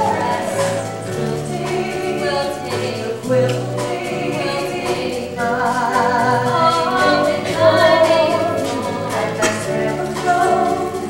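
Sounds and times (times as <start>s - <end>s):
backing vocals: 0.0s - 11.0s
instrumental accompaniment: 0.0s - 11.0s.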